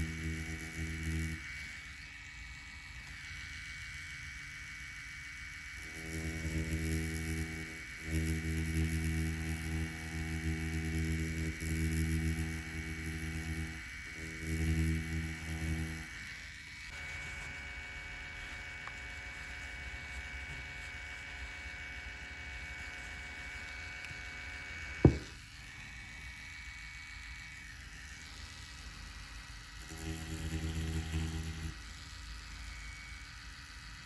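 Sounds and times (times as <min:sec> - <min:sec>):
tattoo pen humming and whining: 0:00.0 - 0:34.0.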